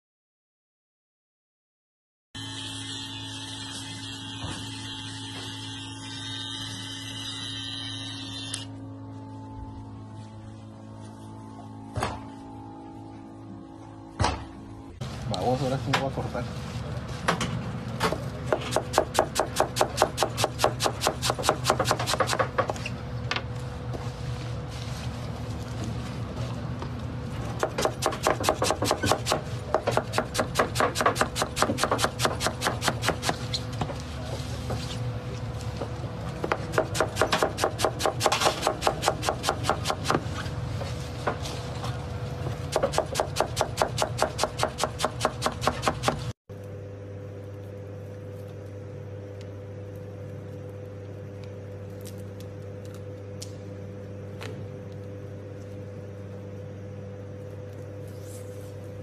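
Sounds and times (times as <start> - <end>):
steady hum: 2.4 - 59.0.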